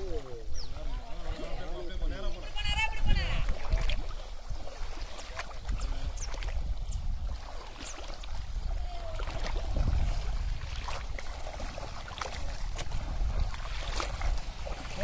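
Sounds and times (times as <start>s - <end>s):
people wading splashing water: 0.0s - 15.0s
wind rumbling on microphone: 0.0s - 15.0s.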